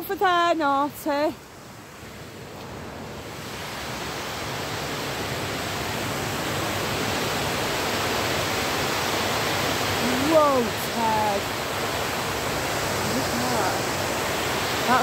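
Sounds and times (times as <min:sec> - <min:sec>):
rushing stream water: 0:00.0 - 0:15.0.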